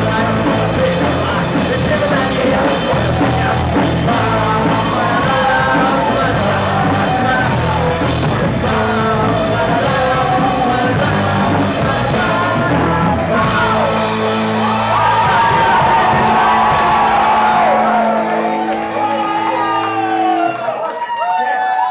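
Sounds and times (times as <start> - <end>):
live rock band: 0.0 - 20.9
person singing: 0.0 - 21.0.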